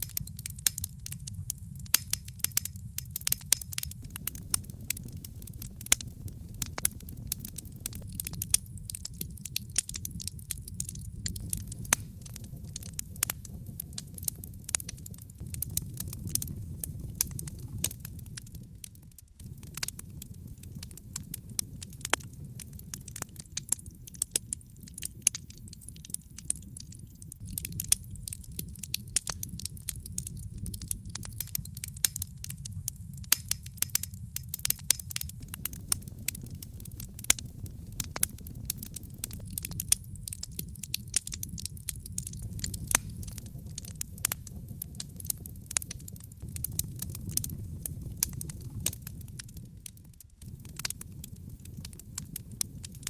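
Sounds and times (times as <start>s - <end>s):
low rumble of burning: 0.0s - 53.0s
wood fire crackling and popping: 0.0s - 53.0s.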